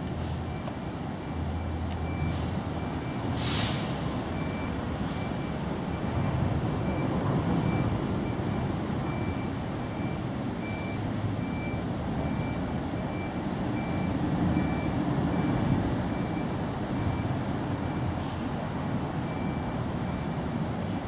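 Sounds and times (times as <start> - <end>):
reversing alarm beeping: 0.4 - 3.4, 4.3 - 21.0.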